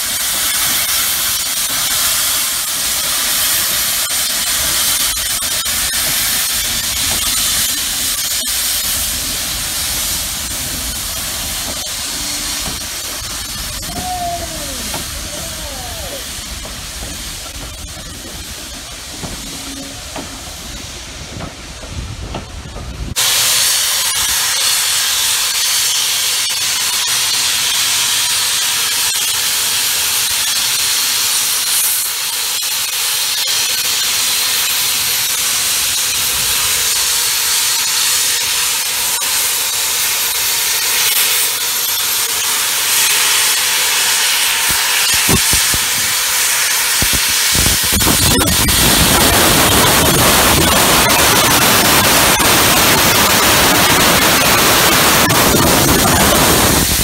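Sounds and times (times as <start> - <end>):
steam locomotive hissing steam: 0.0 - 57.0.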